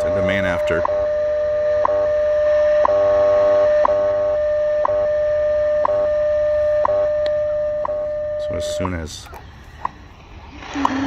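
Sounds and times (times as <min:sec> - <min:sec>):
steady radio tone: 0:00.0 - 0:11.0.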